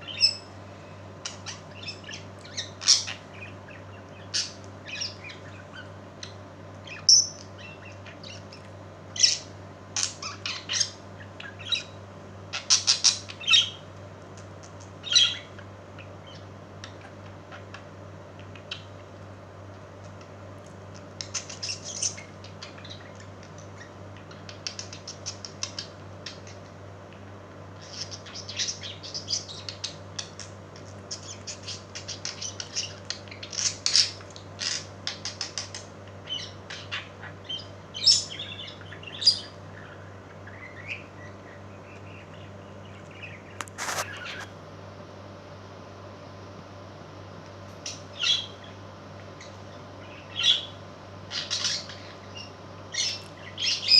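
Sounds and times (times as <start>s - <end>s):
pet birds chirping and squawking: 0.0s - 44.6s, 47.7s - 53.9s
steady low hum: 0.0s - 53.9s.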